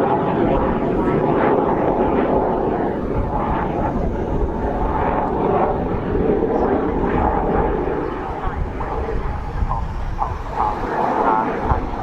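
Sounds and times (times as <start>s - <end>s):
jet aircraft flying: 0.0s - 12.0s.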